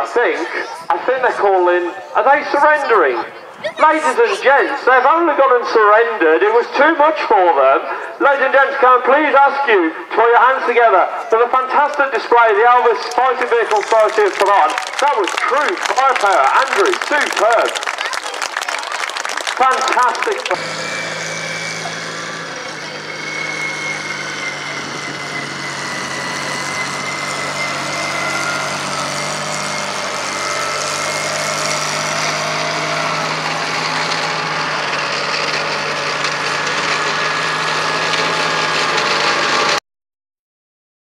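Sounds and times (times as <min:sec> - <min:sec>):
tank engine running: 0:00.0 - 0:39.8.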